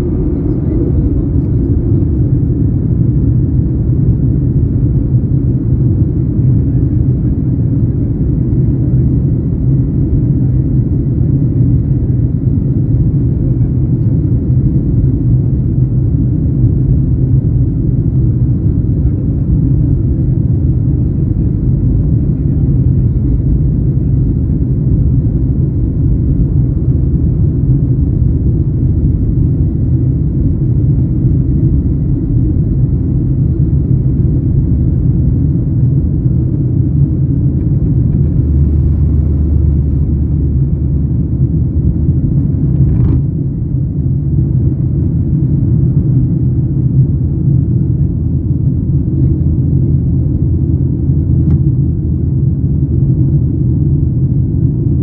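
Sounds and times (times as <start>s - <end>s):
deeper hum: 0.0s - 53.4s
jet engine rumble in cabin: 0.0s - 55.0s.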